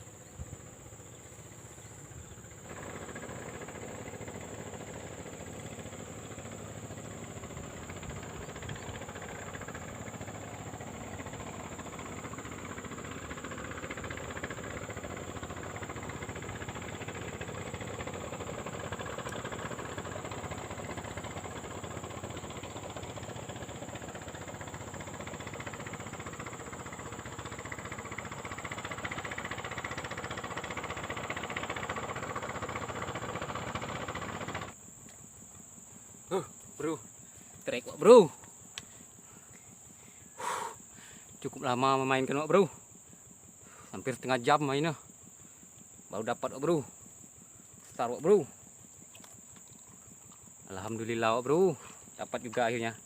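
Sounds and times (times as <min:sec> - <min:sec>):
high insect drone: 0:00.0 - 0:53.0
motor engine running: 0:00.0 - 0:53.0.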